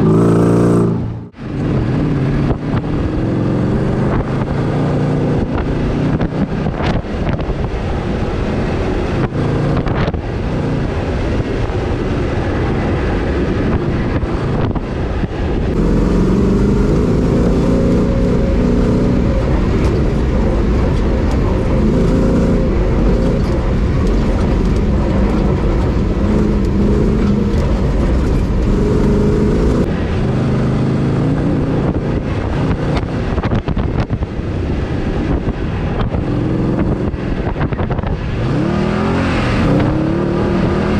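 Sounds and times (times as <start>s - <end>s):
off-road vehicle engine under load: 0.0s - 40.9s
road and wind noise: 0.0s - 40.9s.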